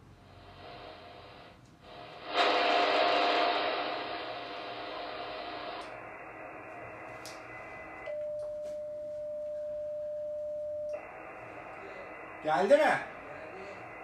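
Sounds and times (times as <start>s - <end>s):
faint radio speaker hiss: 0.0s - 14.0s
steady single-pitch radio tone: 0.5s - 14.0s.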